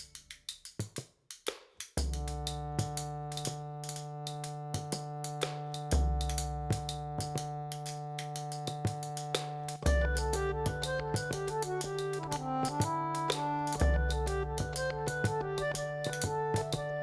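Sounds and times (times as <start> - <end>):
sharp percussive ticks: 0.0 - 17.0.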